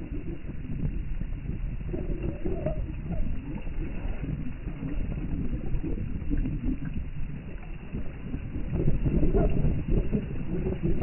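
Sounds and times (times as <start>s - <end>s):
waves washing on pond: 0.0s - 11.0s
wind gusting across microphone: 0.0s - 11.0s.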